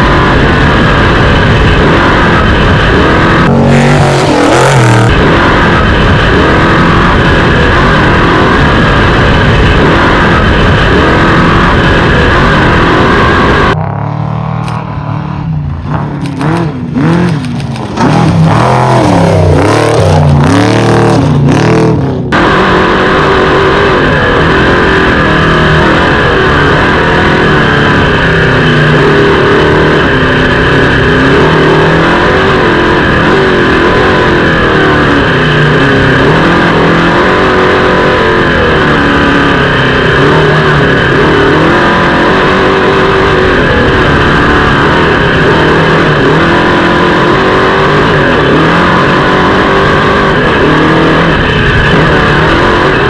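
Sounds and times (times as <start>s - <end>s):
race vehicle engine revving: 0.0s - 53.0s.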